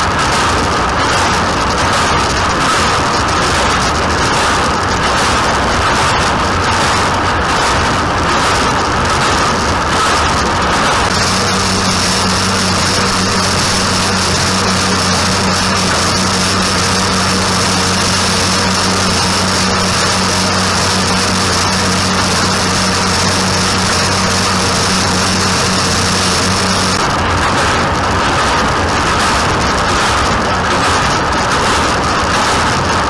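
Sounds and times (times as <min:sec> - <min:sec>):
high whine: 0:00.0 - 0:33.0
tractor engine running: 0:00.0 - 0:33.0.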